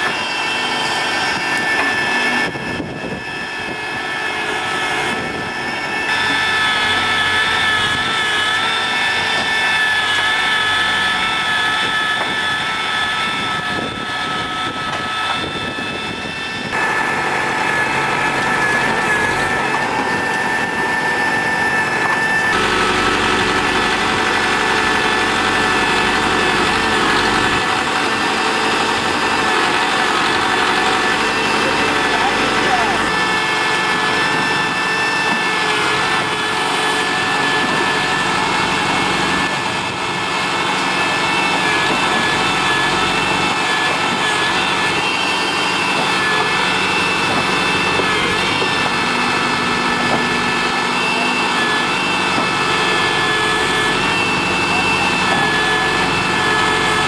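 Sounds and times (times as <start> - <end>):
diesel tractor engine under load: 0.0 - 57.0
high whine: 0.0 - 57.0.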